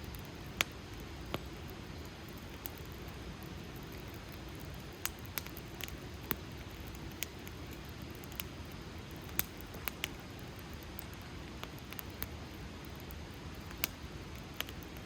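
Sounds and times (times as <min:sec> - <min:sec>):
campfire hiss: 0:00.0 - 0:15.0.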